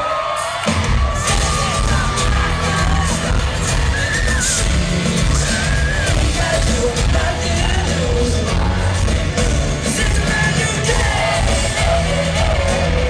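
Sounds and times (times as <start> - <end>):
live pop-rock band: 0.0 - 13.0
voices yelling and singing: 0.0 - 13.0.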